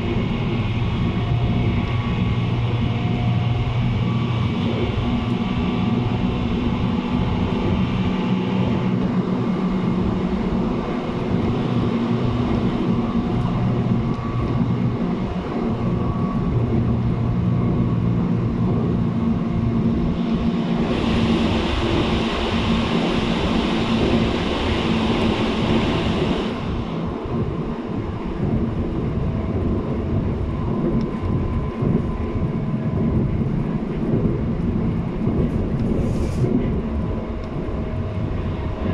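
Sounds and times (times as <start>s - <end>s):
train motor drone: 0.0s - 38.9s
wheel-on-rail rumble: 0.0s - 38.9s.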